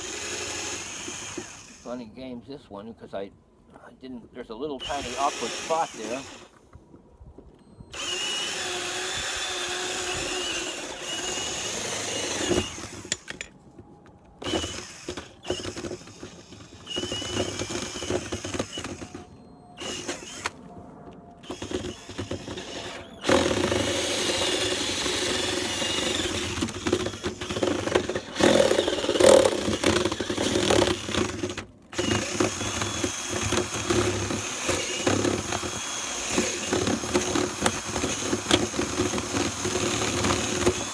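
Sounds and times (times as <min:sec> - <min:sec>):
electric drill boring into wood: 0:00.0 - 0:01.9, 0:04.8 - 0:06.6, 0:07.8 - 0:13.5, 0:14.4 - 0:20.6, 0:21.4 - 0:40.9.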